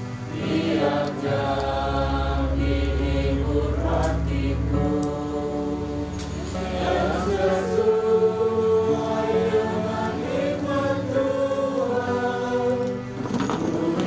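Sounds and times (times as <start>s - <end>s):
congregation singing a hymn: 0.0s - 14.0s.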